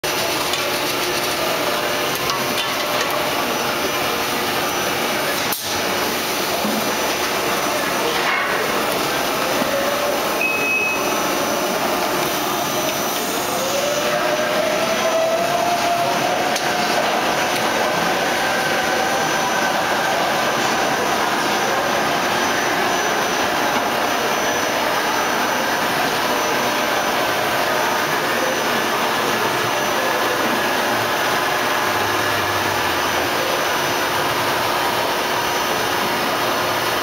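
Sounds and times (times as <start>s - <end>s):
industrial machinery hum: 0.0s - 37.0s
faint machine whines: 3.2s - 36.4s.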